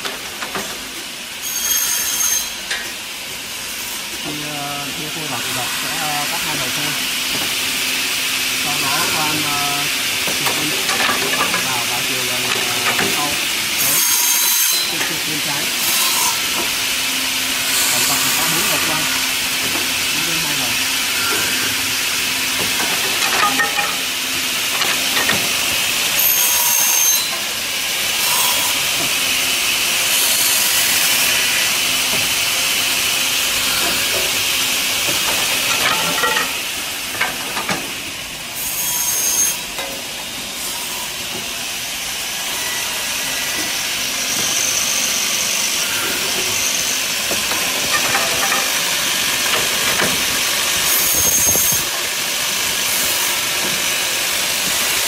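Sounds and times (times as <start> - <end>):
machine sawing timber: 4.2 - 39.8, 40.4 - 55.0.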